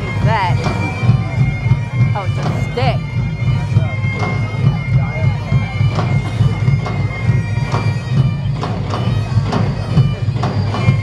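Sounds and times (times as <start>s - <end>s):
bagpipes playing: 0.0s - 11.0s.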